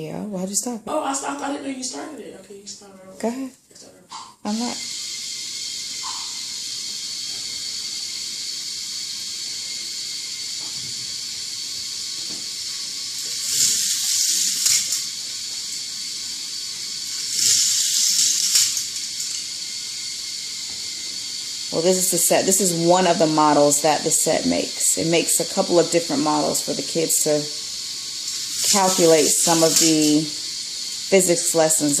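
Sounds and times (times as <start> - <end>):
toy roller coaster whirring: 4.7 - 32.0.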